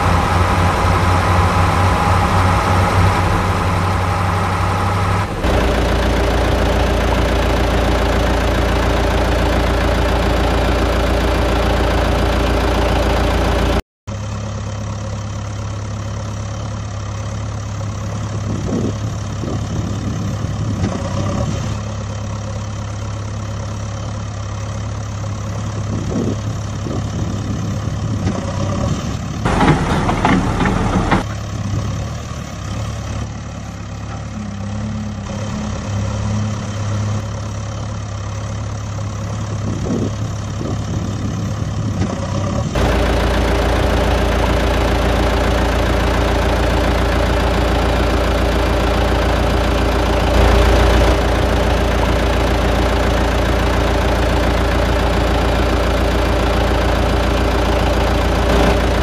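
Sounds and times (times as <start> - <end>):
engine running: 0.0 - 59.0
rough engine sound: 0.0 - 59.0.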